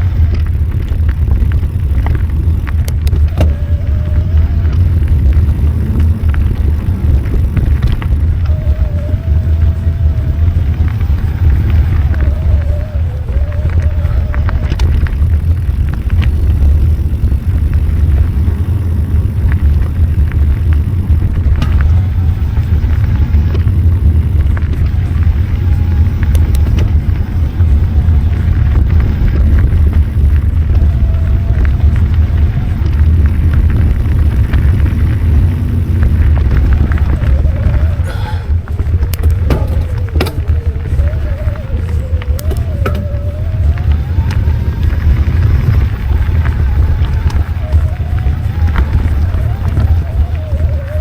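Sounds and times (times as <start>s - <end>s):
bike clicks and rattles: 0.0s - 51.0s
wind buffeting microphone: 0.0s - 51.0s.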